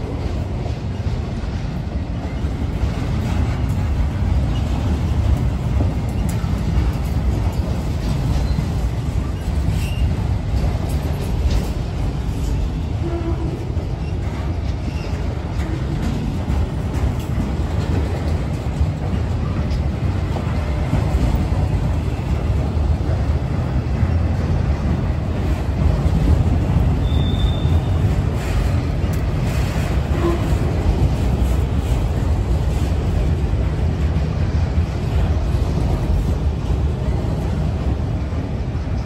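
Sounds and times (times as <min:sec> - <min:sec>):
freight train rumbling past: 0:00.0 - 0:39.0.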